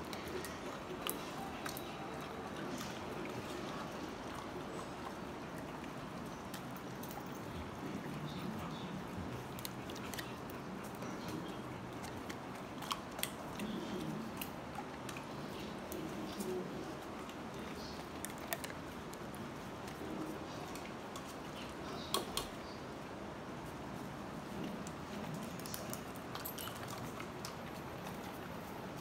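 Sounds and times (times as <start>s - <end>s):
dogs chewing and crunching treats: 0.0s - 29.0s
steady low hiss: 0.0s - 29.0s.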